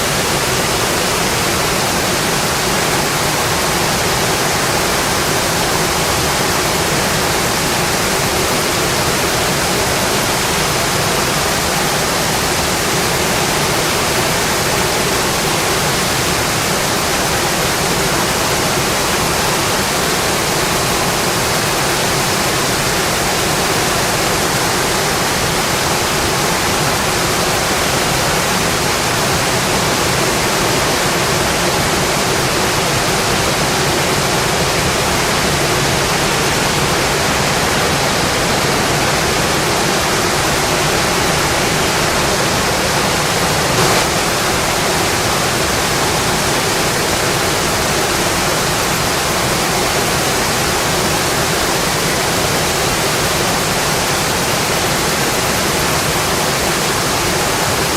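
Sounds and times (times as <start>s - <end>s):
steady dense rainfall: 0.0s - 57.9s.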